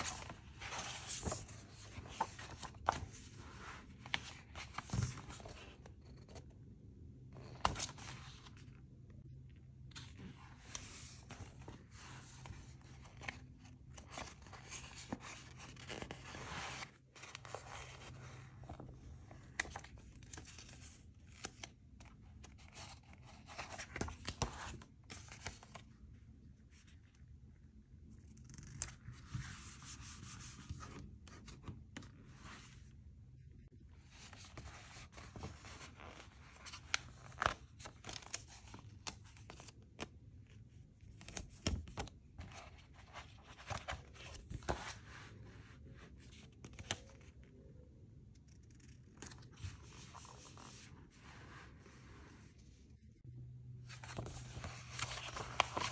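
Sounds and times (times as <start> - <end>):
paper pages rustling and turning: 0.0 - 6.5, 7.3 - 8.8, 9.8 - 26.0, 28.2 - 32.9, 34.0 - 47.4, 48.4 - 52.7, 53.3 - 55.9.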